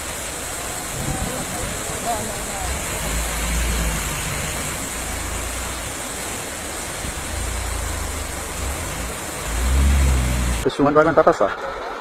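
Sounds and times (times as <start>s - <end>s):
flooded river rushing: 0.0s - 10.8s
low rumble: 0.9s - 10.6s.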